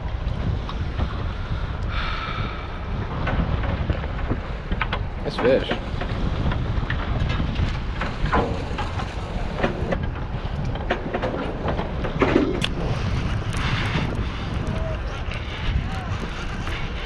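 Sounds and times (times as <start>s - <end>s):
boat engines rumbling: 0.0s - 17.0s
wind on microphone: 0.0s - 17.0s.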